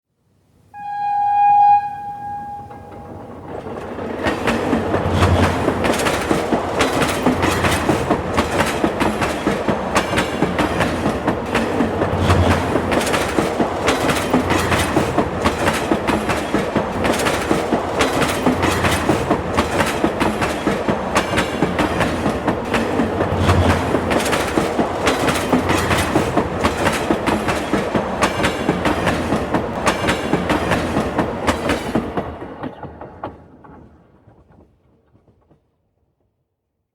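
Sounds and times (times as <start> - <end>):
train rumbling: 0.8 - 35.7
wheels clacking over rail joints: 2.6 - 35.7.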